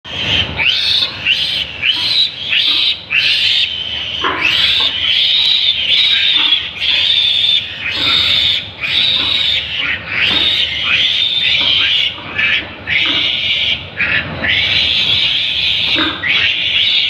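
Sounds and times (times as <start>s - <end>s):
piglet squealing: 0.1s - 17.0s.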